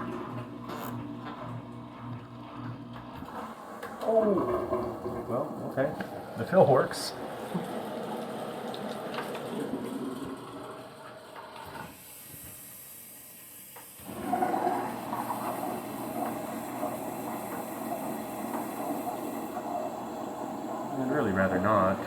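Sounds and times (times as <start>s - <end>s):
water rushing into washer: 0.0s - 22.0s.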